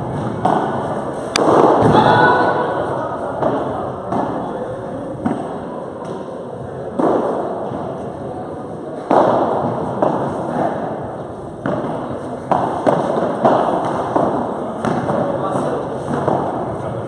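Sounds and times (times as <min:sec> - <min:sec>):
padel ball hits echoing in hall: 0:00.0 - 0:08.2, 0:09.0 - 0:16.9.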